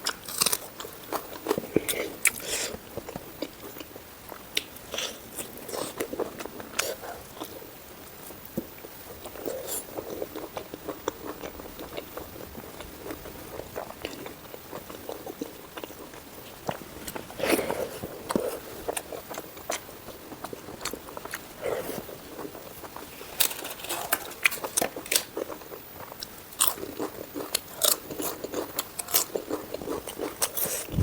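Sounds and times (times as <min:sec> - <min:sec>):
chewing and biting: 0:00.0 - 0:07.7, 0:08.5 - 0:31.0.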